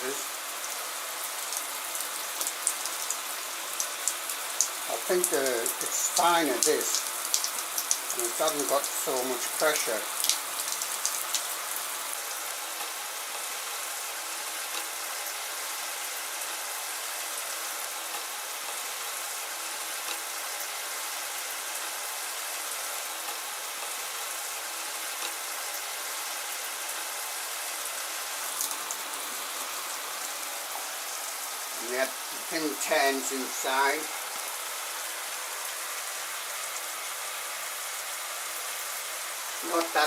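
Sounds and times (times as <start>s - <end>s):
shower head water spraying: 0.0s - 40.0s.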